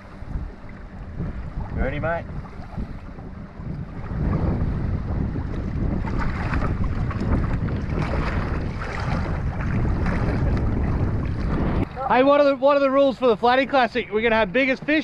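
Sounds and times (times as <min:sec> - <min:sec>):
small boat rushing across water: 0:00.0 - 0:15.0
wind buffeting microphone: 0:00.0 - 0:15.0.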